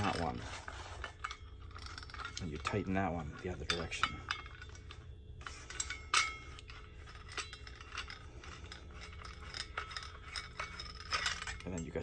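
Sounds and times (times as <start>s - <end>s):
metal clicks and scraping: 0.0s - 12.0s.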